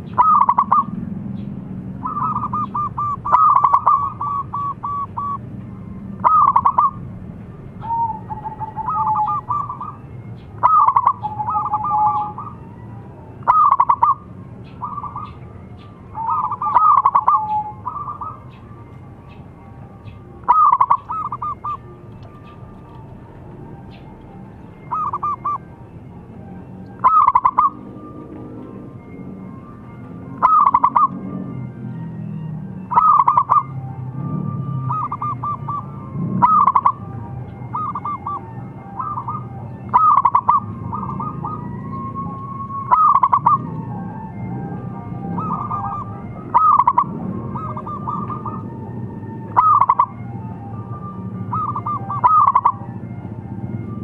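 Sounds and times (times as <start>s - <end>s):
dove cooing: 0.0s - 31.5s, 32.2s - 52.9s.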